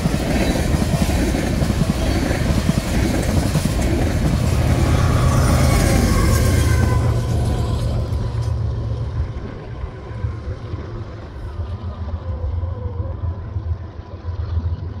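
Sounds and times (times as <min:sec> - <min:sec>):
hiss of passing rail cars: 0:00.0 - 0:13.2
diesel freight train rumbling: 0:00.0 - 0:13.9.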